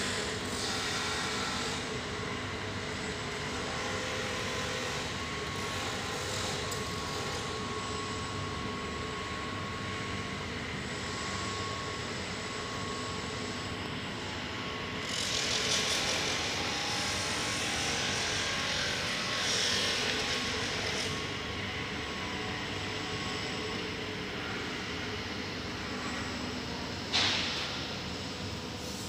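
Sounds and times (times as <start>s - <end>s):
factory machinery hum: 0.0s - 29.0s.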